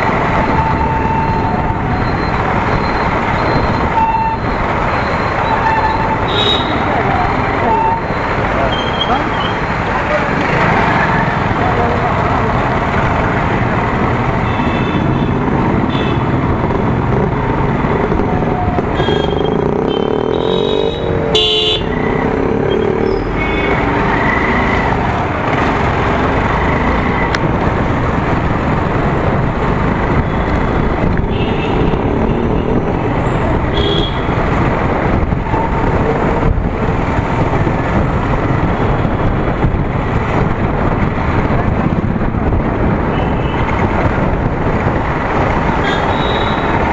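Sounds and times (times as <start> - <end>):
road and traffic noise: 0.0 - 46.9.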